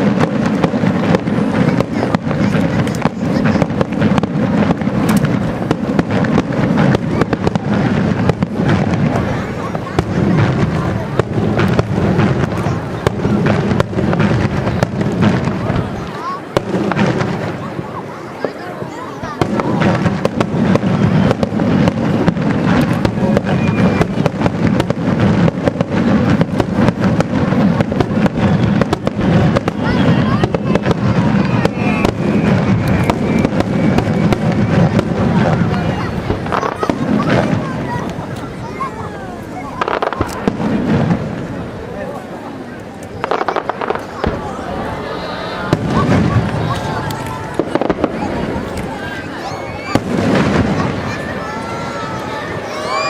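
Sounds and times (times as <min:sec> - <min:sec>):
continuous rumble: 0:00.0 - 0:52.8
fireworks cracks and bangs: 0:00.0 - 0:53.0.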